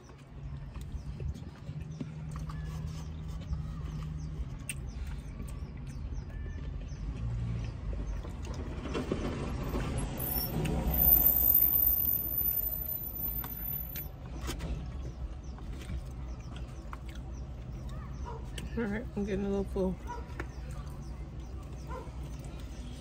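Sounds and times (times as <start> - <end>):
truck passing: 0.2 - 23.0.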